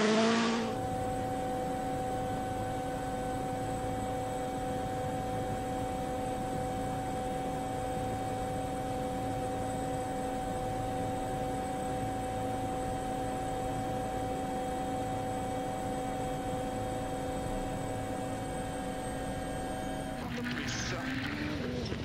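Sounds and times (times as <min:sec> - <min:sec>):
constant hum: 0:00.0 - 0:22.0.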